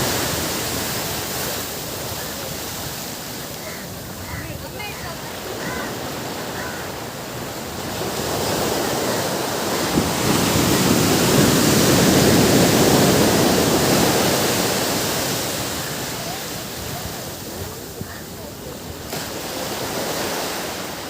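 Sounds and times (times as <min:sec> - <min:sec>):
sea wave rushing in: 0:00.0 - 0:21.0.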